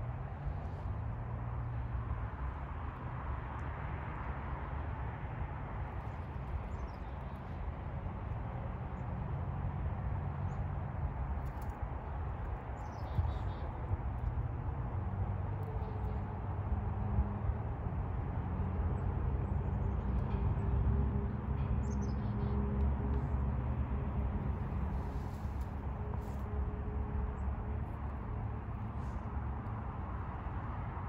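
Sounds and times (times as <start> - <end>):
outdoor rumble and hiss: 0.0 - 31.0.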